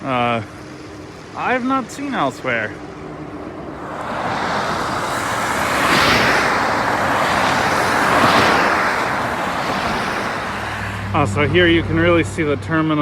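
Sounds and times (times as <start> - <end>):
cars passing with tyres hissing: 0.0 - 13.0.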